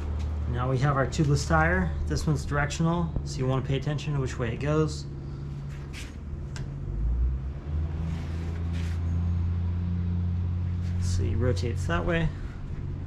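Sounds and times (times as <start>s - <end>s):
low rumbling hum: 0.0s - 13.0s.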